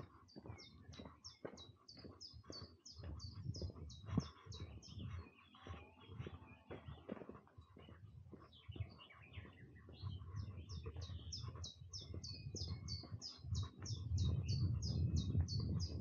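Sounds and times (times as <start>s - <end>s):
bird chirps: 0.0s - 16.0s
footsteps: 0.0s - 16.0s
songbird singing: 0.0s - 16.0s.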